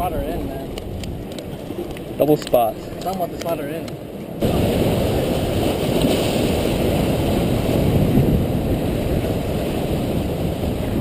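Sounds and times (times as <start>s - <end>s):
ocean waves breaking on rocks: 0.0s - 11.0s
wind rumbling on microphone: 0.0s - 11.0s.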